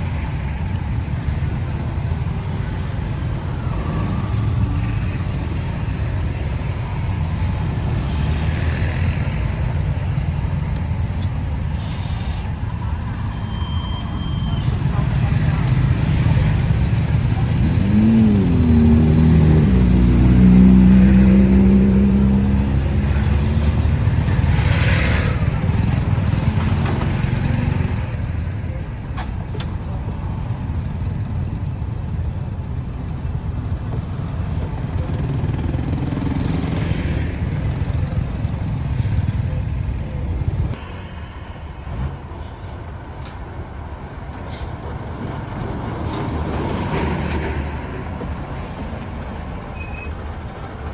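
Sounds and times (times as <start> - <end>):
road traffic noise: 0.0 - 50.9
vehicles passing: 0.0 - 50.9.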